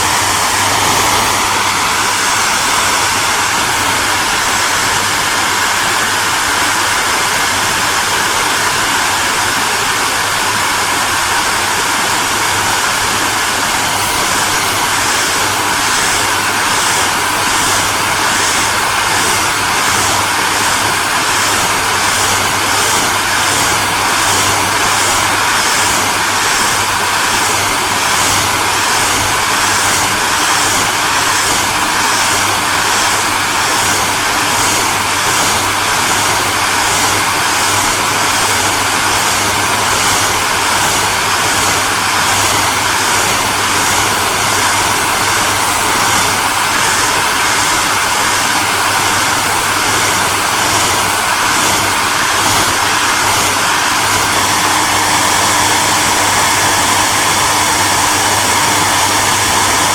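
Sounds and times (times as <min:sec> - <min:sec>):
hairdryer blowing air: 0:00.0 - 0:59.9.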